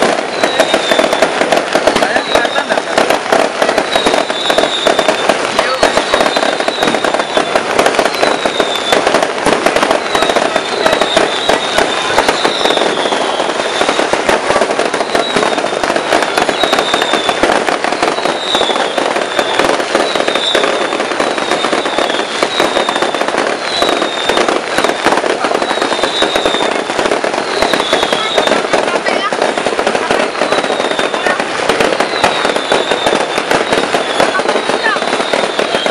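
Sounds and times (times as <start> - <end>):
fireworks crackling and popping: 0.0 - 35.9.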